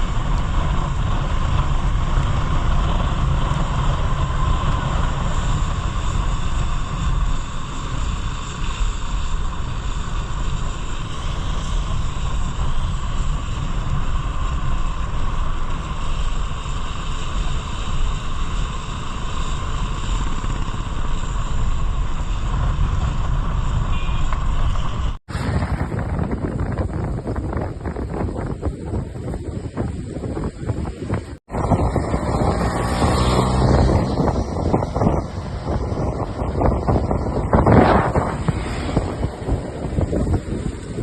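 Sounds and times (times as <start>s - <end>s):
motorcycle engine running: 0.0s - 41.0s
wind rushing over microphone: 0.0s - 41.0s.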